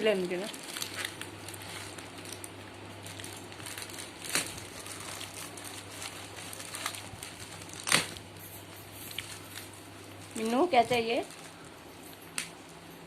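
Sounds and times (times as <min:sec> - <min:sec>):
low steady hum: 0:00.0 - 0:13.0
packaging crinkling and rustling: 0:00.0 - 0:13.0.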